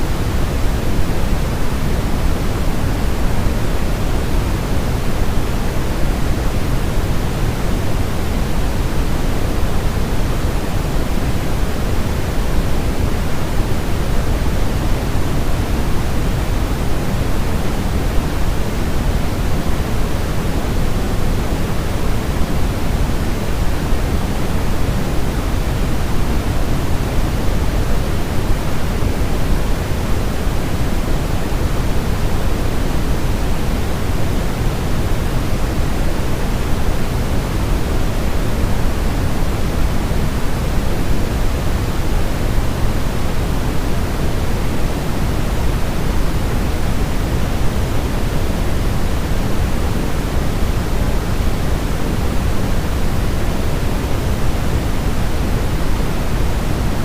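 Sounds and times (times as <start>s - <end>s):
deep rushing white noise: 0.0s - 57.0s.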